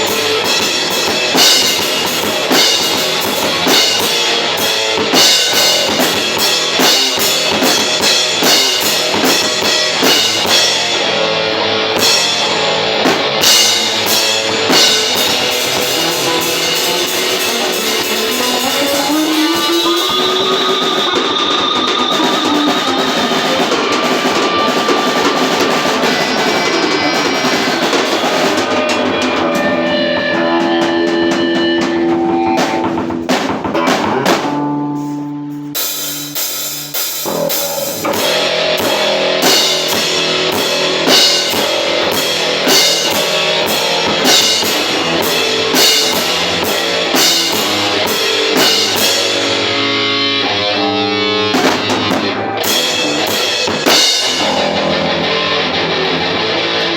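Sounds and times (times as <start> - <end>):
drum kit: 0.0 - 56.9
electric guitar: 0.0 - 56.9.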